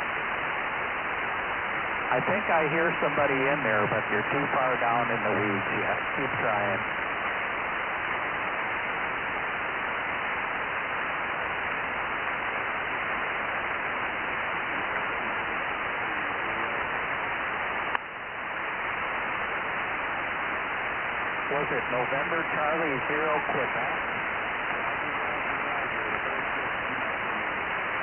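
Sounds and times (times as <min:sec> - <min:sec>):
radio static hiss: 0:00.0 - 0:28.0.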